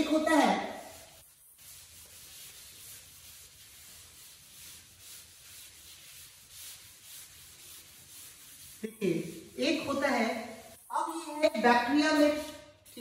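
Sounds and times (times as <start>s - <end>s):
cloth wiping a chalkboard: 0.0s - 13.0s.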